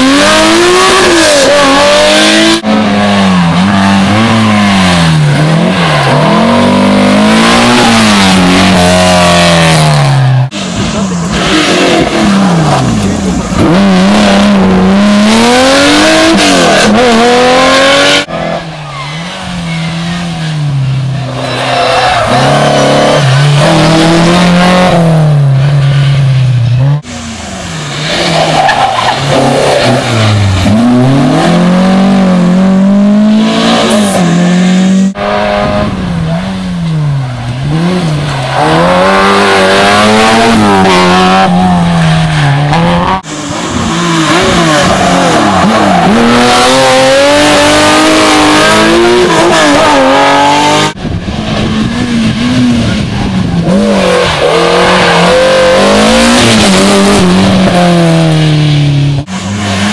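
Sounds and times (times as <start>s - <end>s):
rally car engines revving hard: 0.0s - 59.9s.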